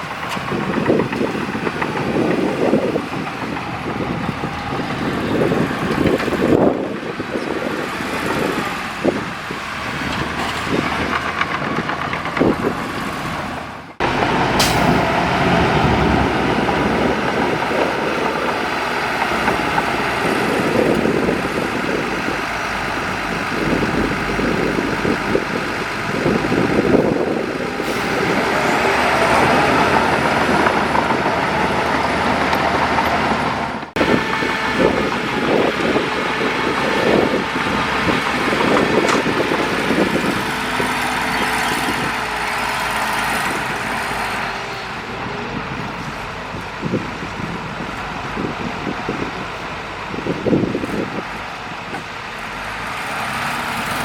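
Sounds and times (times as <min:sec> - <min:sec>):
heavy diesel machinery engine drone: 0:00.0 - 0:54.0.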